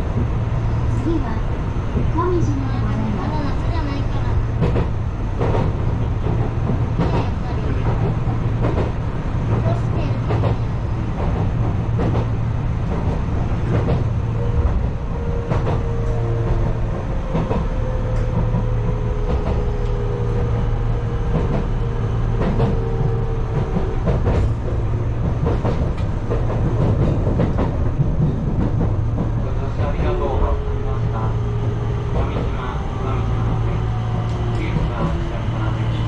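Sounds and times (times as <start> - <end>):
train rumble with wheel clicks: 0.0 - 36.0.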